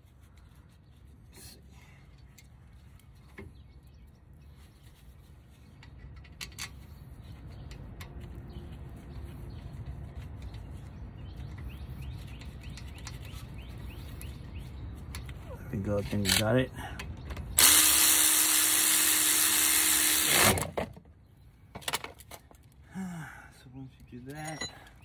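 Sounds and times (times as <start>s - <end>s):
birds chirping: 0.2s - 17.7s, 22.4s - 25.0s.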